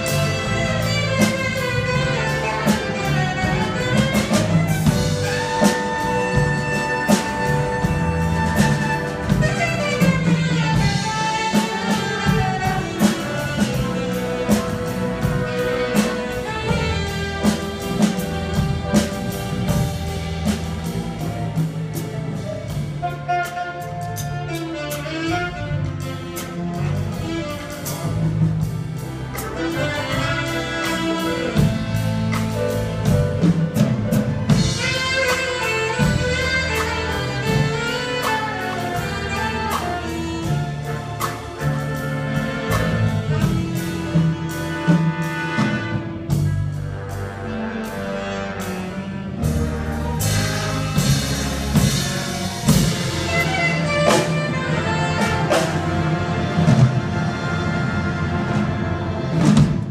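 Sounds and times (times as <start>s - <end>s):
drum kit beat: 0.0s - 59.9s
orchestra strings and brass: 0.0s - 59.9s
saxophone solo: 0.0s - 59.9s.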